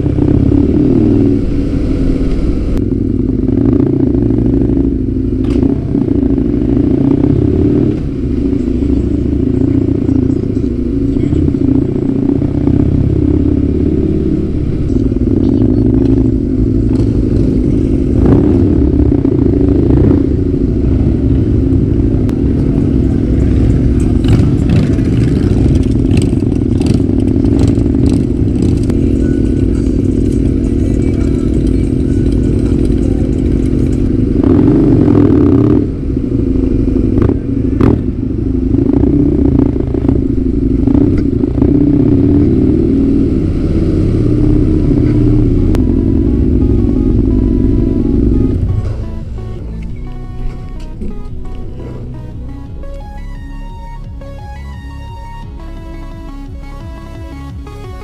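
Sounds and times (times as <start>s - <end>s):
motorcycle engine throbbing: 0.0s - 58.0s.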